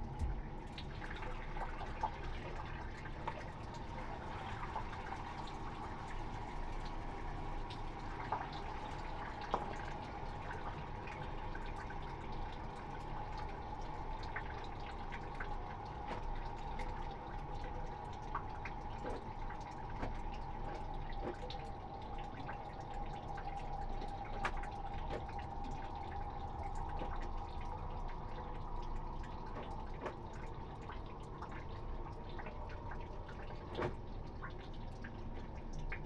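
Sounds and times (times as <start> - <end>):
water drips and splashes: 0.0 - 36.0.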